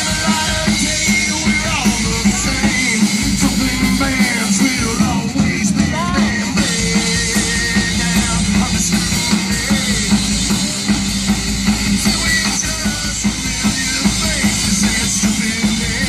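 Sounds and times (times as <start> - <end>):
drum kit and cymbals: 0.0 - 16.0
electric guitar riff: 0.0 - 16.0.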